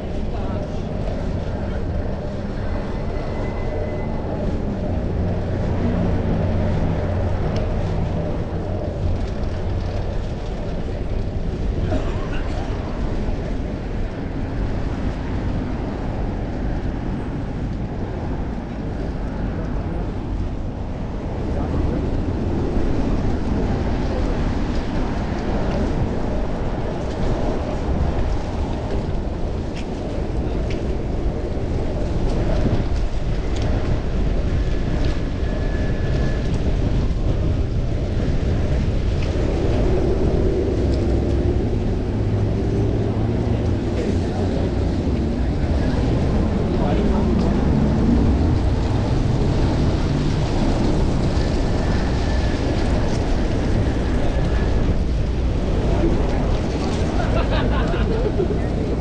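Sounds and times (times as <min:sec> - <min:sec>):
road and traffic noise: 0:00.0 - 0:59.0
wind buffeting microphone: 0:00.0 - 0:59.0.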